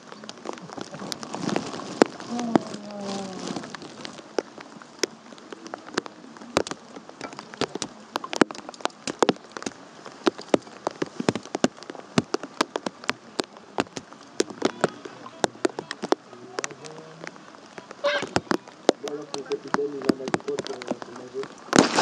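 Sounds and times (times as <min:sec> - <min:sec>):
raindrops tapping on a surface: 0:00.0 - 0:22.0.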